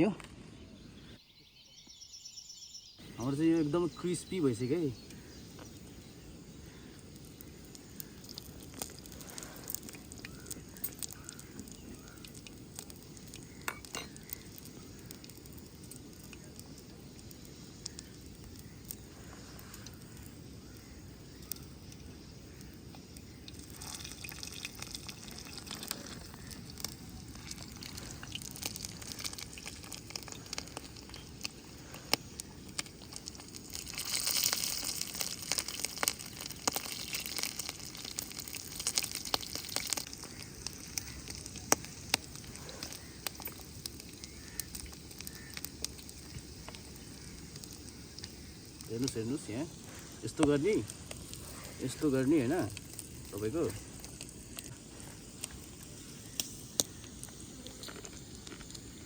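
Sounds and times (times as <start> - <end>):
fat popping and crackling: 3.0 - 59.0
meat sizzling on griddle: 3.3 - 59.0.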